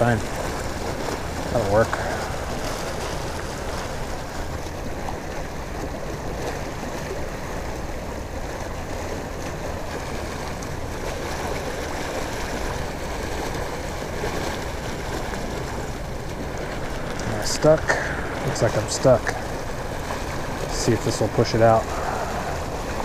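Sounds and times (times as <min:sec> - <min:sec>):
water rushing from a pipe: 0:00.0 - 0:23.0.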